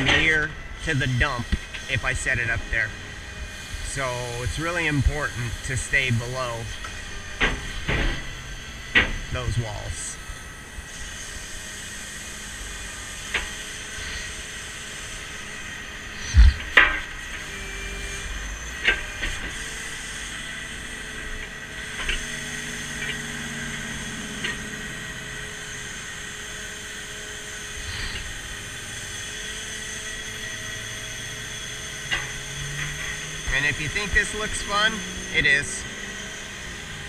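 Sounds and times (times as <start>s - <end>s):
hydraulic system hiss and whine: 0.0s - 37.0s.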